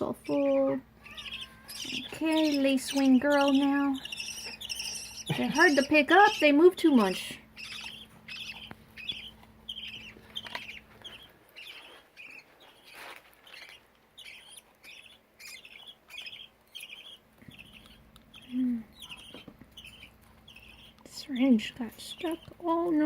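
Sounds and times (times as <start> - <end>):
bird chick begging chirps: 0.0 - 22.6.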